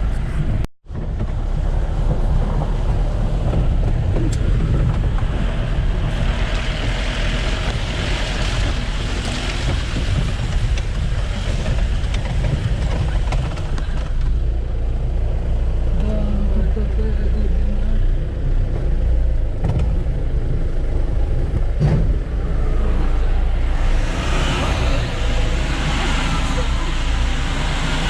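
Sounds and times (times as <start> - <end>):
jeep engine and road rumble: 0.0 - 28.0.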